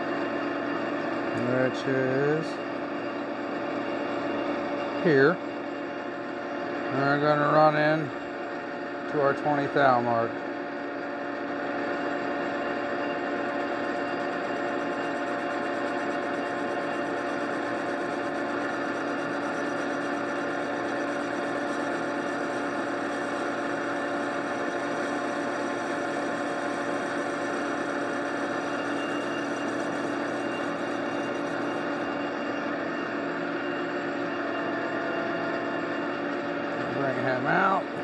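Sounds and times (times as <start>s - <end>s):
lathe humming: 0.0s - 38.0s
noisy background: 0.4s - 38.0s.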